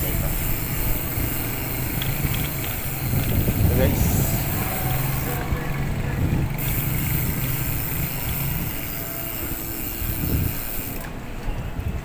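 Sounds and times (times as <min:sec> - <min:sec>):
small engine running: 0:00.0 - 0:11.2
street traffic: 0:00.0 - 0:12.0.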